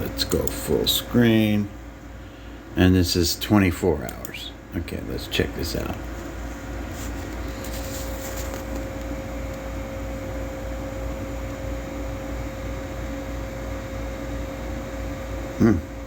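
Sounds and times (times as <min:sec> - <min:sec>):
machine hum with hiss: 0:00.0 - 0:16.0.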